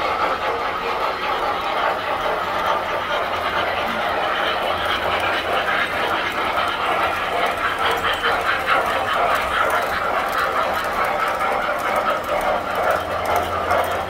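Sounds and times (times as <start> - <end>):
toy train whirring: 0.0 - 14.0
wheels clicking on track: 0.0 - 14.0.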